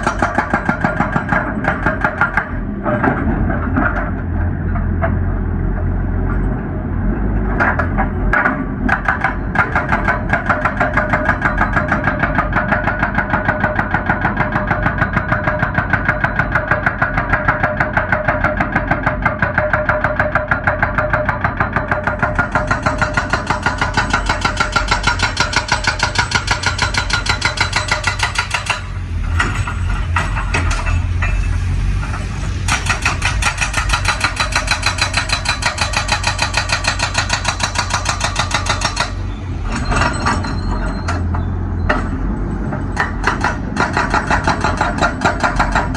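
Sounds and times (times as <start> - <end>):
hydraulic breaker hammering rock: 0.0 - 4.2, 7.6 - 45.9
excavator engine running: 0.0 - 45.9.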